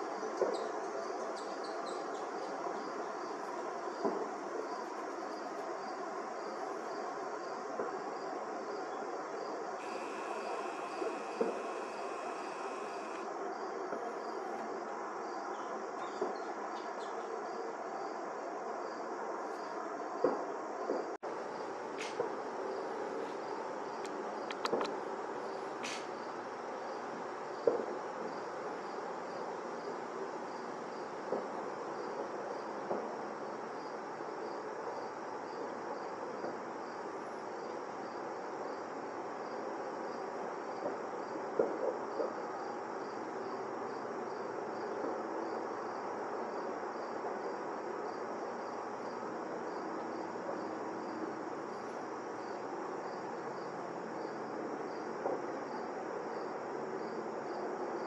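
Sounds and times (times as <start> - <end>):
insects chirping: 0.0 - 31.1, 42.1 - 58.0
low outdoor hum: 0.0 - 58.0.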